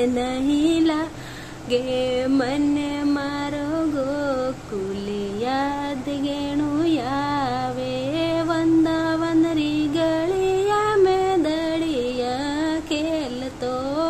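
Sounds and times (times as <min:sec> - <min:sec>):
woman singing devotional song: 0:00.0 - 0:14.0.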